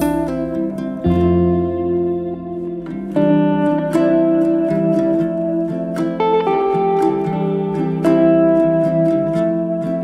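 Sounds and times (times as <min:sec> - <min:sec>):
plucked string melody over chords: 0:00.0 - 0:10.0.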